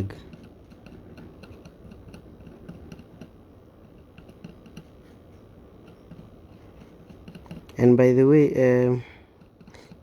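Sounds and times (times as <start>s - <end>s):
soldering iron tip ticking: 0.0s - 5.0s, 5.6s - 10.0s.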